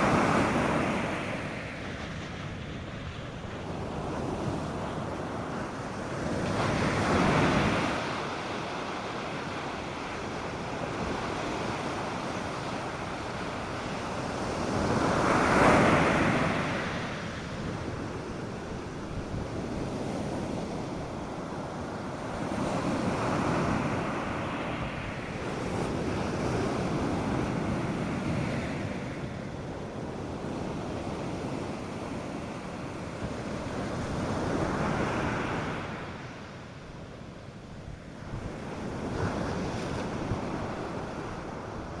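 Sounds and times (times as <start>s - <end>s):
light steady wind: 0.0s - 42.0s
waves breaking on a sandy beach: 0.0s - 42.0s.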